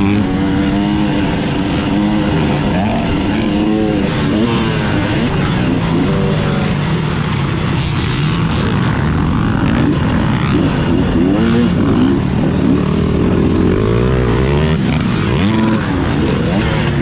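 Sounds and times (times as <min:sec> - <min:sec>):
dirt bike engines revving hard: 0:00.0 - 0:17.0.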